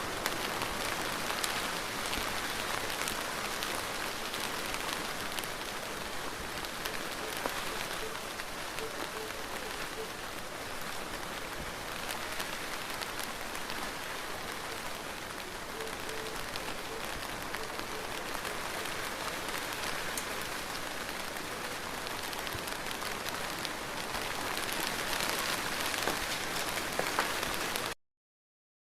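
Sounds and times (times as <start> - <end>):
rain on a hard surface: 0.0 - 28.0.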